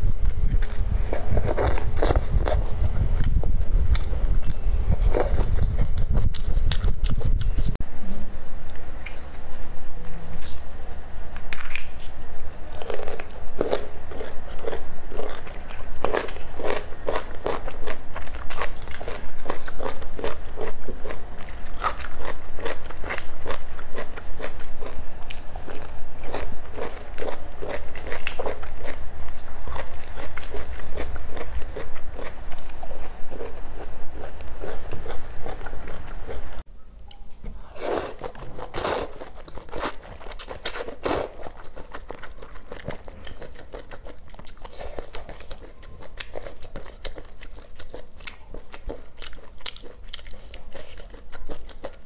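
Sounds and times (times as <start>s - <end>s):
crunchy chewing: 0.2s - 7.8s, 8.6s - 52.0s.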